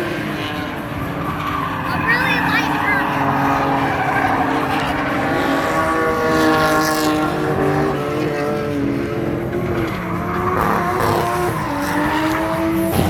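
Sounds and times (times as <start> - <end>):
car engines revving high: 0.0 - 13.0.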